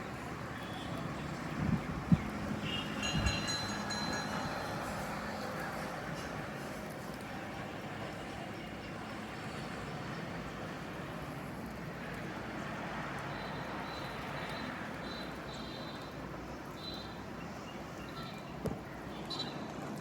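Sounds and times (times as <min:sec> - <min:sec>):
aeroplane flying overhead: 0:00.0 - 0:20.0.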